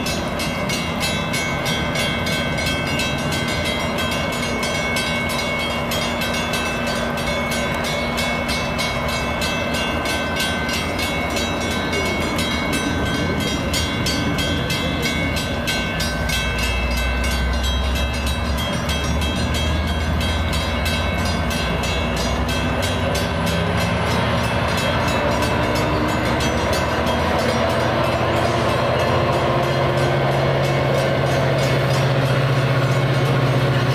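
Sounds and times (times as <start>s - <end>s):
low locomotive engine tone: 0.0s - 33.9s
train wheels clicking over rail joints: 0.0s - 33.9s.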